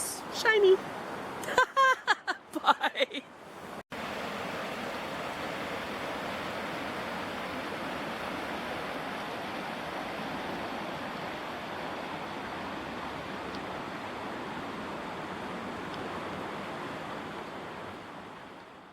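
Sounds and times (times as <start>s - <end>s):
river water rushing: 0.0s - 1.4s, 3.4s - 18.9s.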